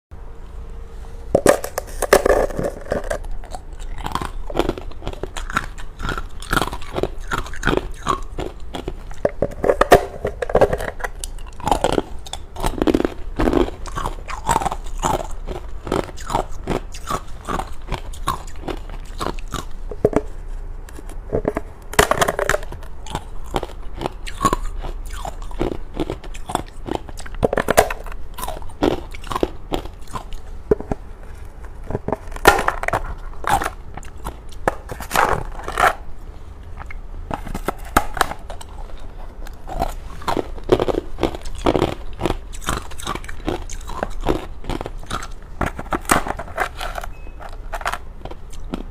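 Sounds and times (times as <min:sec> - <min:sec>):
biting and chewing ice: 0:01.4 - 0:36.1, 0:36.8 - 0:48.9.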